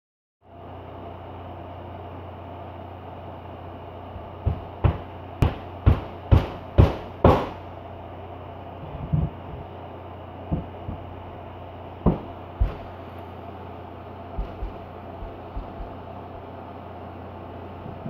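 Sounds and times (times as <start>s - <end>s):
low hum: 0.4s - 18.0s.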